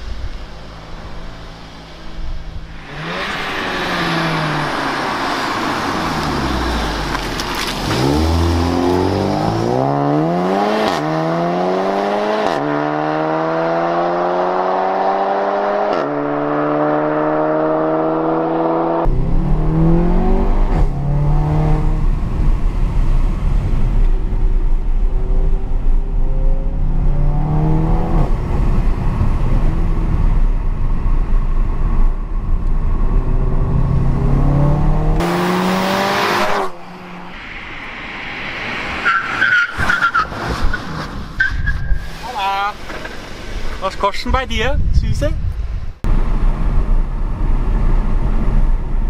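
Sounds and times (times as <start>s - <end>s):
car engine accelerating: 0.0s - 41.4s.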